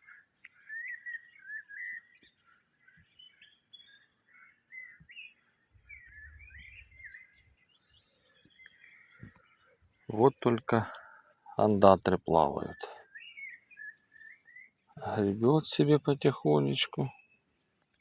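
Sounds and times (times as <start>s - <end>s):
birds chirping and warbling: 0.0s - 18.0s.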